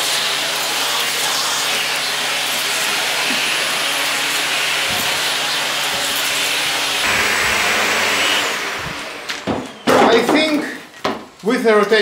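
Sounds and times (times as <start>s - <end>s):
vacuum cleaner on rug: 0.0s - 10.0s.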